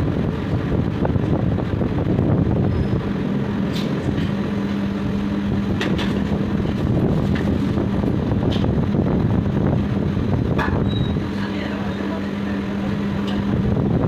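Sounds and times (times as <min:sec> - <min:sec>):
low rumble of kitchen equipment: 0:00.0 - 0:14.0
steady hum: 0:00.0 - 0:14.0.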